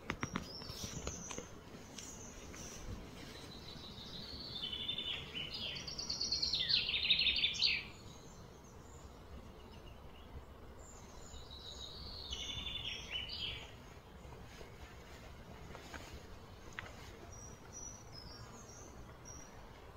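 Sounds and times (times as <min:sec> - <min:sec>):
songbird chirping: 0:00.0 - 0:19.9.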